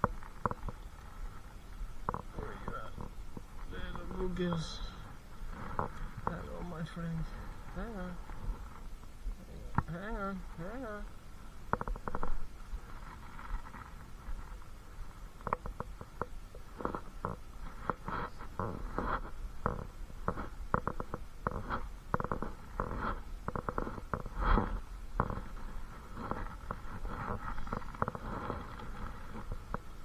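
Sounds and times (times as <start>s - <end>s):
microphone handling clicks and rubbing: 0.0s - 30.0s.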